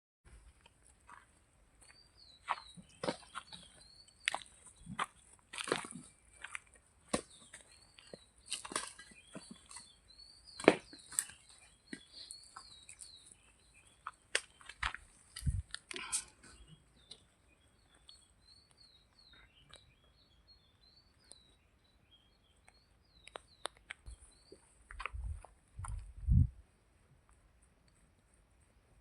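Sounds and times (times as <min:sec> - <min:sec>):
small birds chirping: 0:01.1 - 0:26.8.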